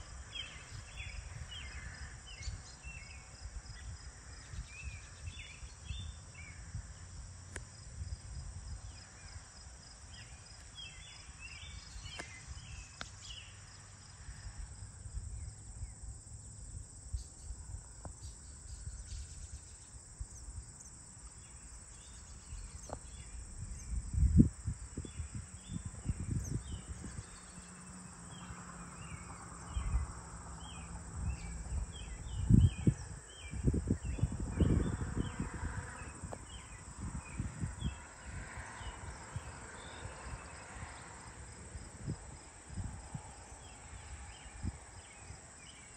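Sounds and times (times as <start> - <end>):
insects trilling: 0.0 - 45.9
wind rumbling on microphone: 0.0 - 45.9.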